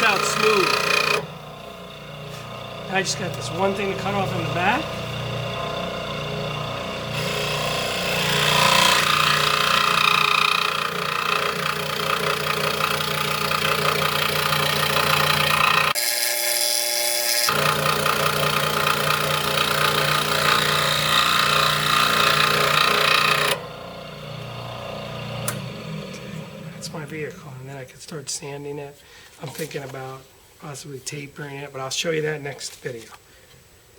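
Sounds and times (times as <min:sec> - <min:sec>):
saw blade cutting wood: 0:00.0 - 0:27.4
scroll saw motor hum: 0:00.0 - 0:27.4.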